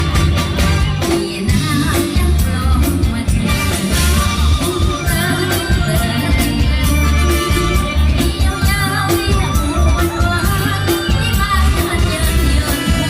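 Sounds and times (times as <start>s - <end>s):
heavy bass beat and percussion: 0.0s - 13.0s
person singing: 0.8s - 13.0s.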